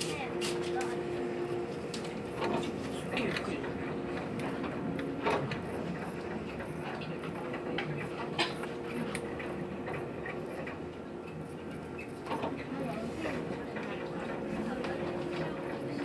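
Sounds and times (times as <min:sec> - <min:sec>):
train carriage running hum: 0:00.0 - 0:16.0.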